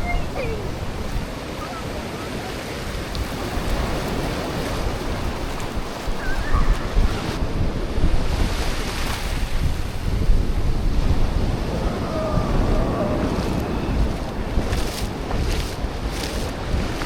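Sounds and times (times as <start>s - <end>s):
sea waves on a beach: 0.0s - 17.0s
wind buffeting microphone: 0.0s - 17.0s.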